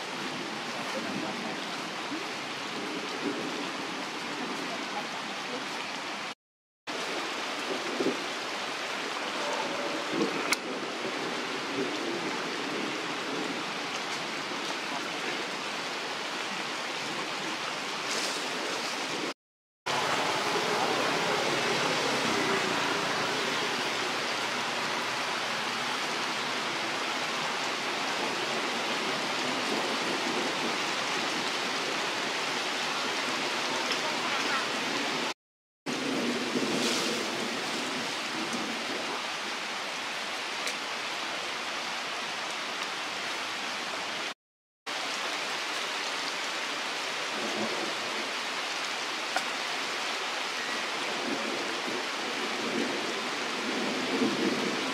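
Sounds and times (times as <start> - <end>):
rushing outdoor noise: 0.0 - 54.9.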